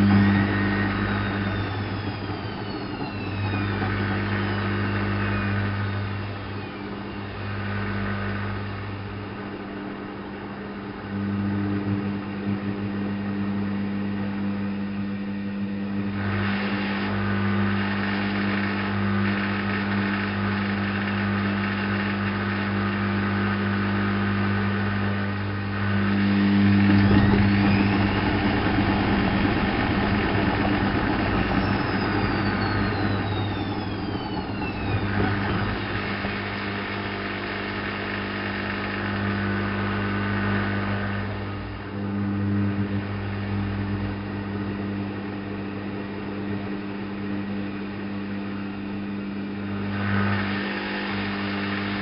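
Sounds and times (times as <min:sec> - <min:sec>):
drum motor whine: 0:00.0 - 0:52.0
washing machine electric hum: 0:00.0 - 0:52.0.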